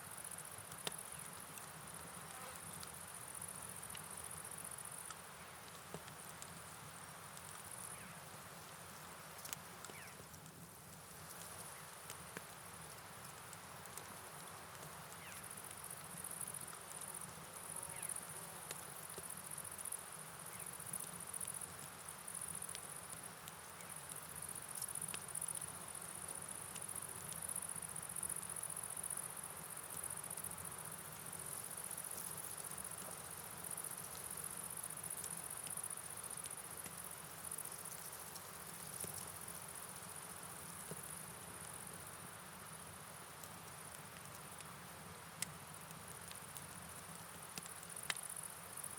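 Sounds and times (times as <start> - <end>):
steady rain: 0.0 - 48.9
faint ticks: 0.1 - 48.9.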